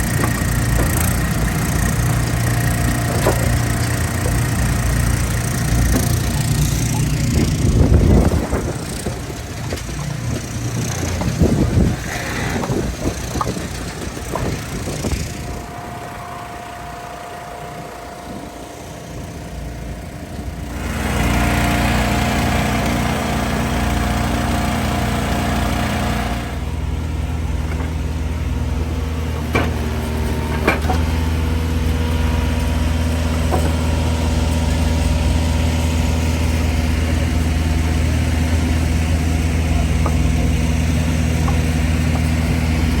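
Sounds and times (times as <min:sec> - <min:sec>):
log splitter engines running: 0:00.0 - 0:43.0.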